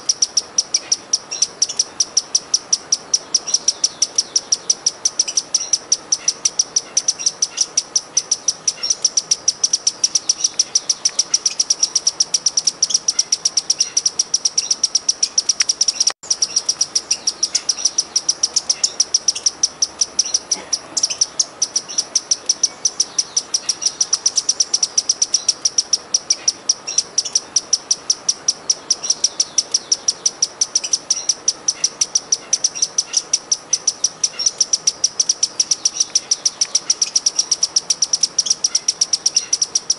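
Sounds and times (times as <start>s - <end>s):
hummingbird chipping: 0.0s - 39.9s.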